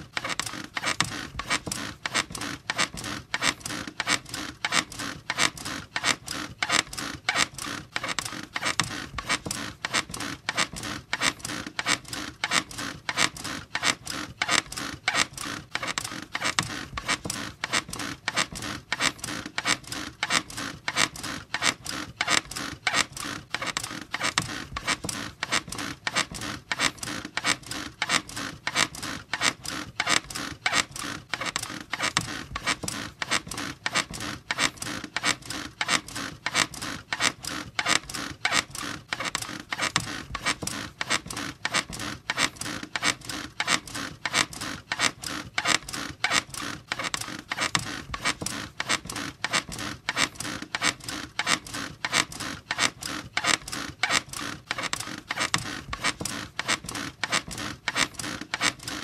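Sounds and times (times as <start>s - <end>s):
squeaky bed creaking: 0.1s - 59.0s.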